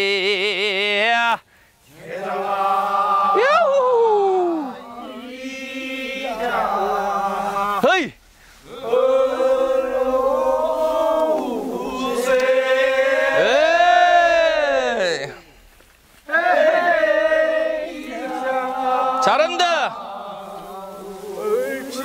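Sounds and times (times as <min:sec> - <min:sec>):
men singing a folk work song: 0:00.0 - 0:15.5, 0:16.2 - 0:22.0.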